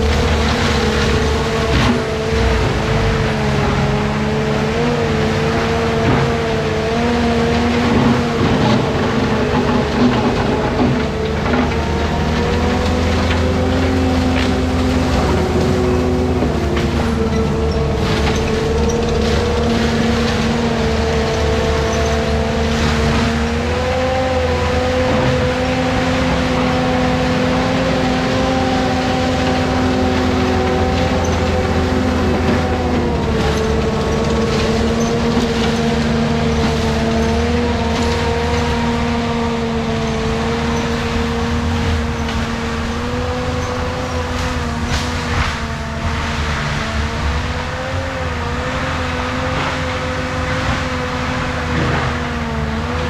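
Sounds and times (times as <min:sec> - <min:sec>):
wood cracking: 0:00.0 - 0:03.9, 0:04.8 - 0:53.0
diesel mulcher grinding brush: 0:00.0 - 0:53.0.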